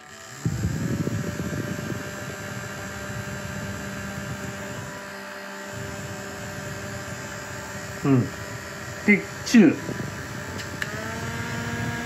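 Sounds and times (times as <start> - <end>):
fan blades rushing: 0.0 - 12.0
fan motor humming: 0.0 - 12.0.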